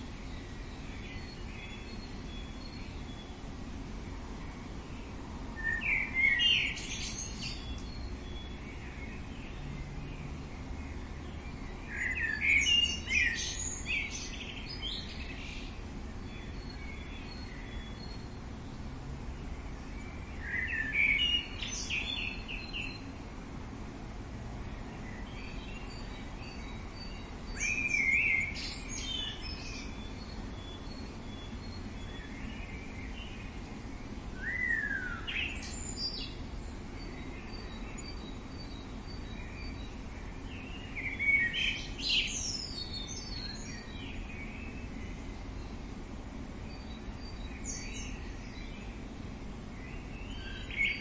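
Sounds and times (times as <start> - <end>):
outdoor background noise: 0.0 - 51.0
songbird singing: 0.0 - 51.0.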